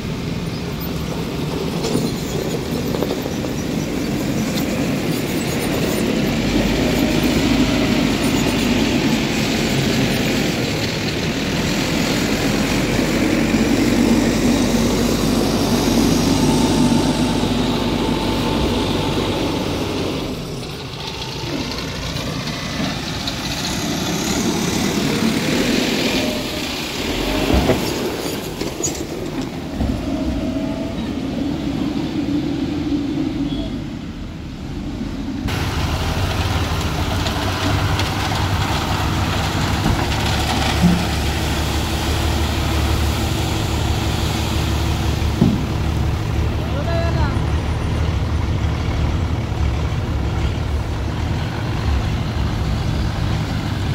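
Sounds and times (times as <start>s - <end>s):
heavy diesel engine running: 0.0s - 53.9s
truck diesel engine droning: 0.0s - 53.9s.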